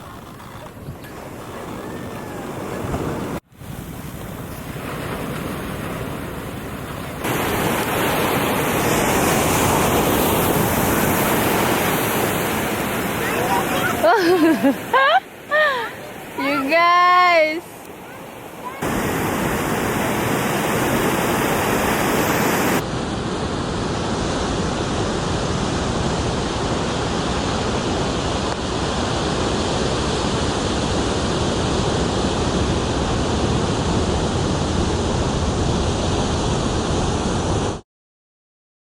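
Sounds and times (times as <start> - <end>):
wind on microphone: 0.0 - 14.0, 18.8 - 37.8
ocean surf: 0.0 - 37.8.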